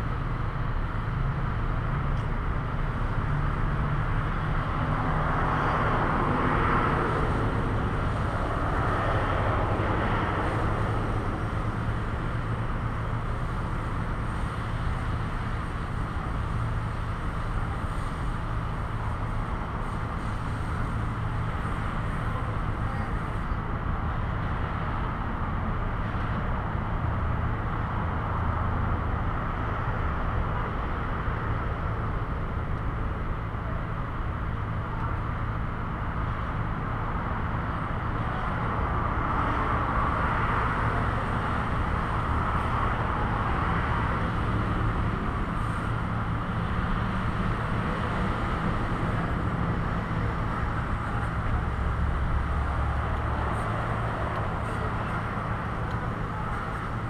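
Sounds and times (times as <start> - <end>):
traffic and engine noise: 0.0 - 57.0.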